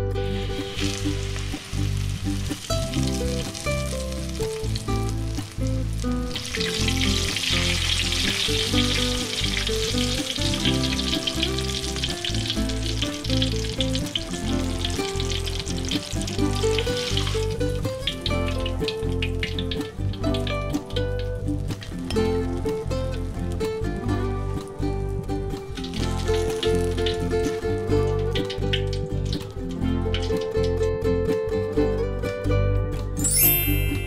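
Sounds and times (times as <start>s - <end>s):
light background music: 0.0s - 34.0s
deep-frying sizzle in oil: 0.1s - 23.6s, 24.5s - 30.7s.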